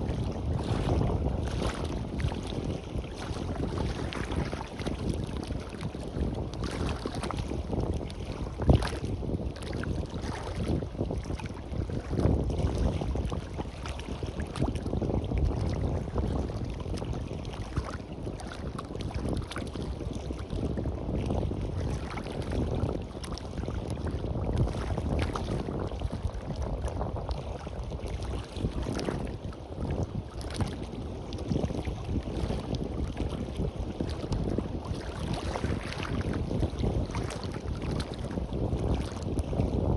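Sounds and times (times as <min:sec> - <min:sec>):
surf washing on beach: 0:00.0 - 0:39.9
wind gusting on microphone: 0:00.0 - 0:39.9.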